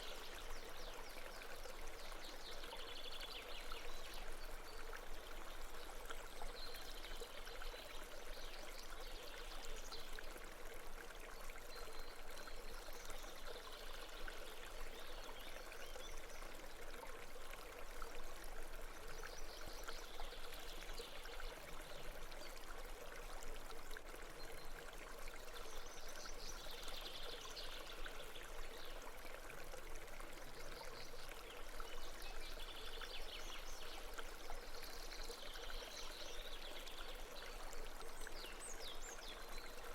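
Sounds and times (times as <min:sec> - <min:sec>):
brook water trickling: 0:00.0 - 0:39.9.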